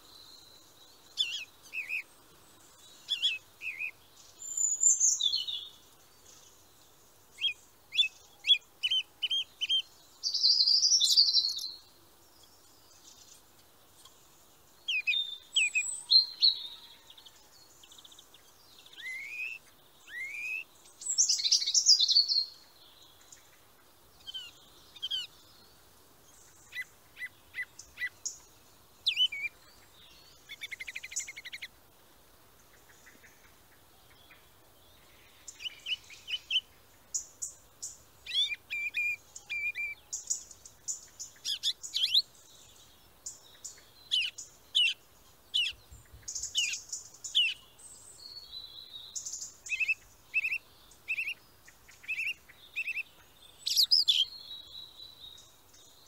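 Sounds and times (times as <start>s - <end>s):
birds chirping and trilling: 0.0s - 31.9s, 32.5s - 56.0s.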